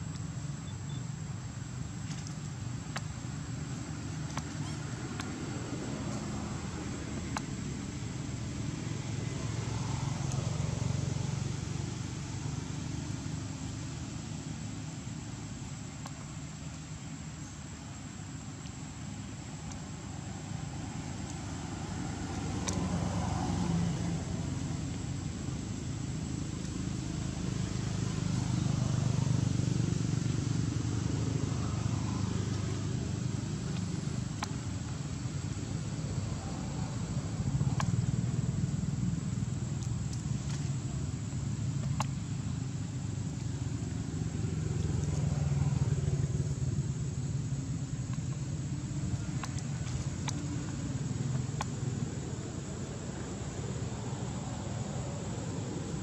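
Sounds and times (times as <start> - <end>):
motor vehicle rumble: 0.0 - 56.0.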